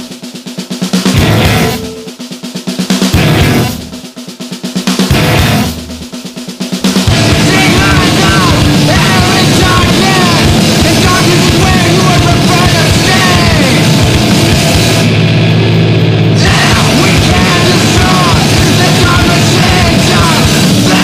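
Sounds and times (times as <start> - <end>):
distorted noise-rock band playing: 0.0 - 21.0.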